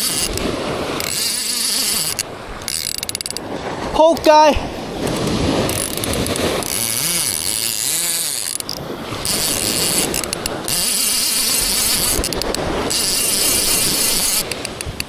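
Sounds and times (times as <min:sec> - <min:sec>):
fishing reel ratcheting and whirring: 0:00.0 - 0:03.6, 0:04.2 - 0:15.0.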